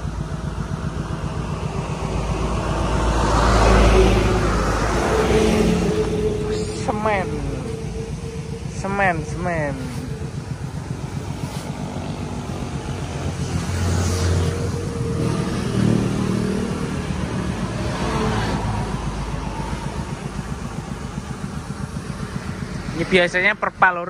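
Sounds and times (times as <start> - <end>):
low engine throb: 0.0 - 24.0
vehicles passing: 0.0 - 24.0.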